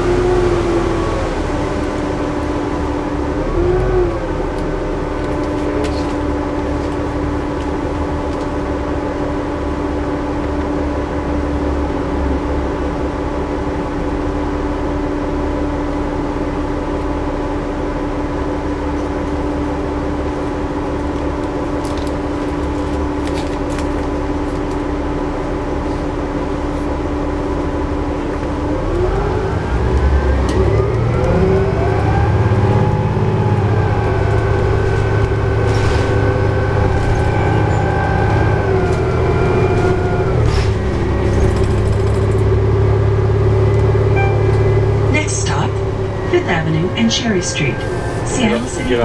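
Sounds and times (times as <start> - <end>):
bus diesel engine: 0.0 - 49.0.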